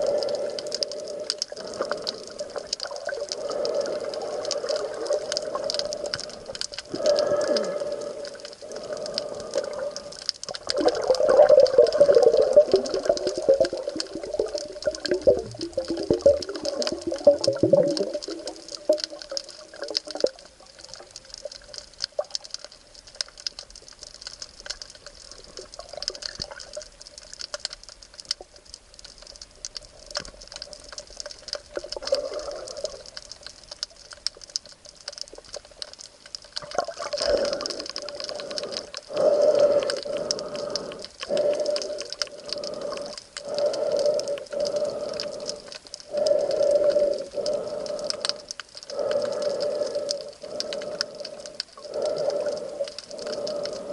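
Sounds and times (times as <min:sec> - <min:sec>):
water bubbling and gurgling: 0:00.0 - 0:53.9
water crackling and washing: 0:00.0 - 0:53.9.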